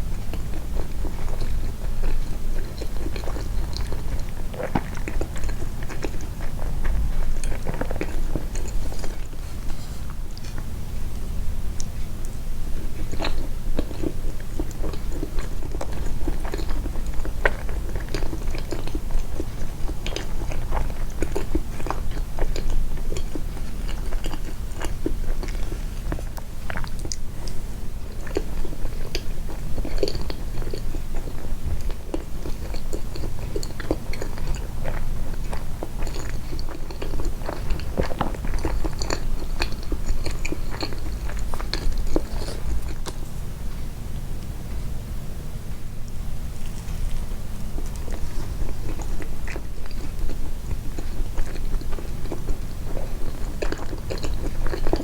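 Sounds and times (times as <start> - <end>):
close-miked chewing: 0.0 - 44.6, 46.0 - 55.0.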